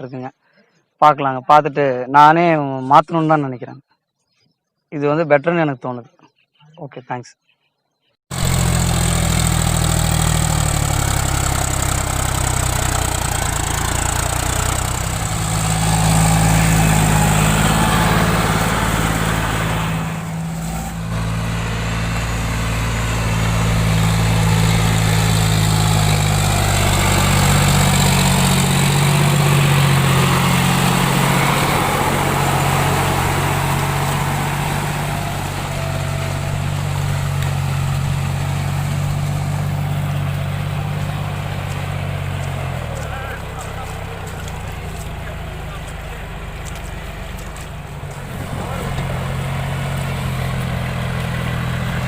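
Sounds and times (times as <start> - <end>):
tractor diesel engine running: 8.3 - 52.0.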